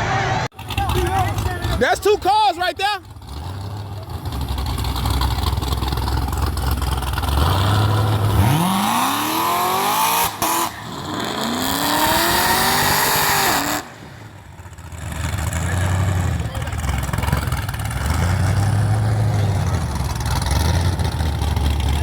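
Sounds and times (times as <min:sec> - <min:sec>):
racing car engines: 0:00.0 - 0:22.0.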